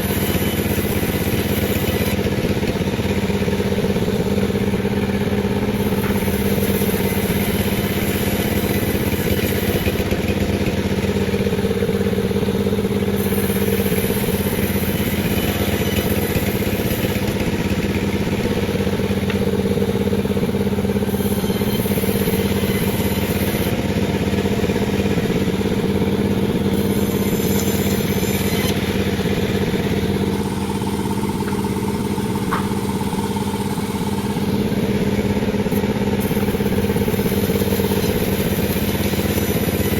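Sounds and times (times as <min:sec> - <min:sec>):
chainsaw sawing a log: 0:00.0 - 0:39.9.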